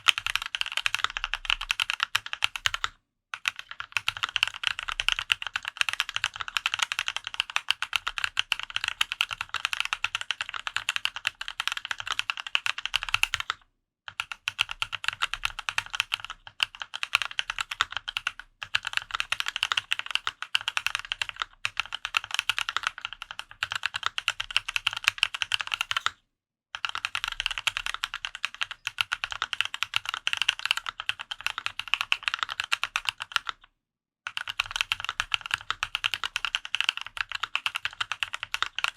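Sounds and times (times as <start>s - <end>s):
fast typing on mechanical keyboard: 0.0s - 26.2s, 26.8s - 33.7s, 34.3s - 38.9s.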